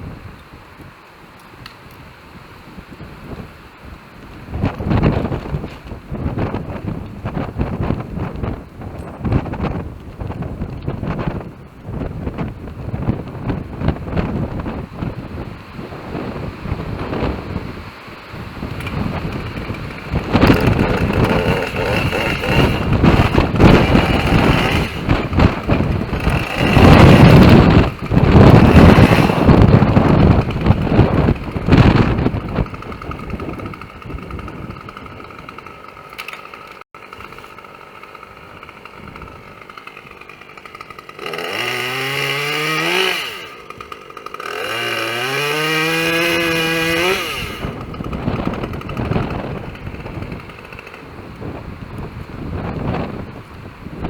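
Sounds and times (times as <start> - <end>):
wind on microphone: 0.0 - 1.0, 1.6 - 35.7, 44.6 - 54.0
two-stroke chainsaw running: 4.3 - 53.3.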